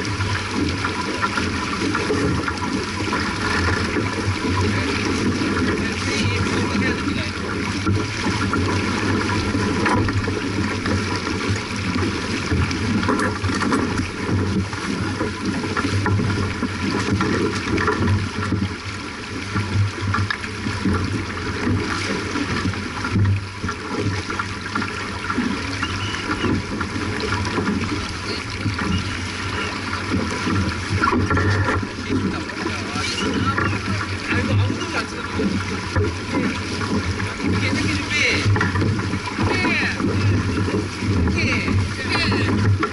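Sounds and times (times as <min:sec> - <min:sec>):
water running along boat hull: 0:00.0 - 0:42.9.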